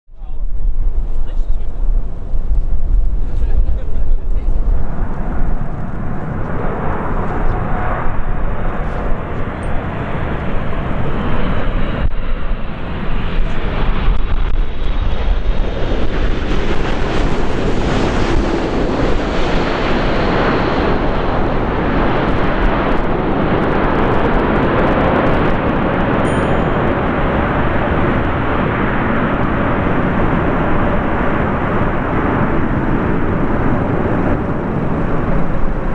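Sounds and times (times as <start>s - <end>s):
jet aircraft landing: 0.2s - 35.9s.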